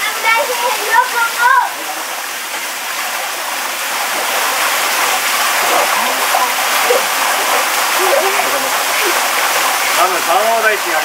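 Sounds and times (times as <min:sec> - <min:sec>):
waterfall pouring: 0:00.0 - 0:11.0.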